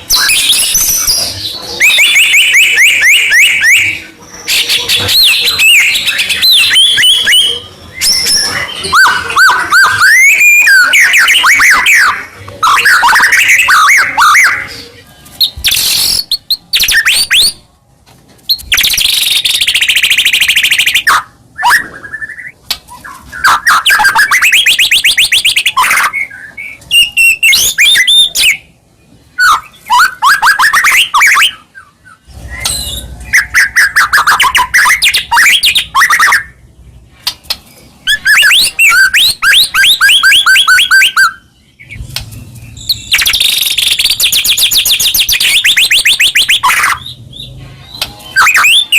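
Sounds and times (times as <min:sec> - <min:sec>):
bird singing trills: 0:00.0 - 0:17.6, 0:18.5 - 0:48.9.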